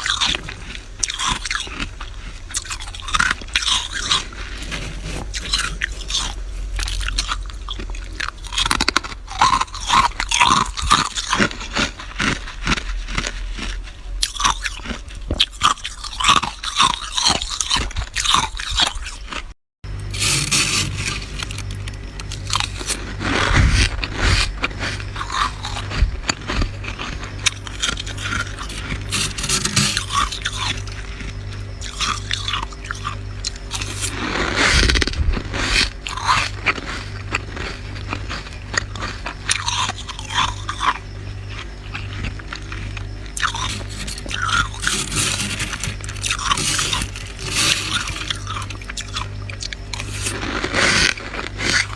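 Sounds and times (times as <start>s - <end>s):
crunching and chewing frost: 0.0s - 51.9s
low pulsing hum: 0.0s - 51.9s.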